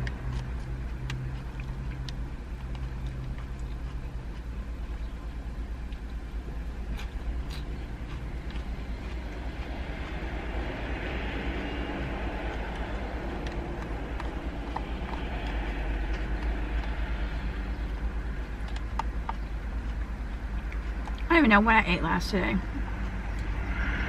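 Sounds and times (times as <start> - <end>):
car idling low rumble: 0.0 - 23.8.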